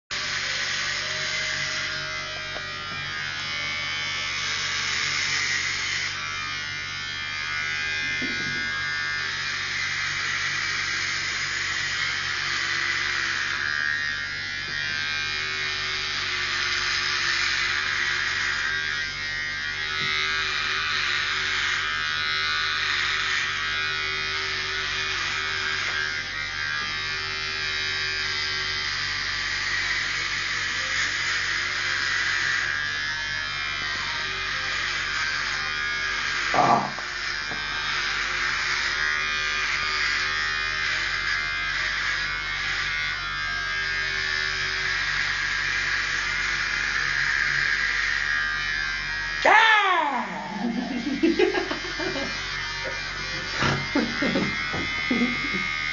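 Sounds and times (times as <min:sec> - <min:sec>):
electric hair clippers buzzing: 0:00.1 - 0:55.9.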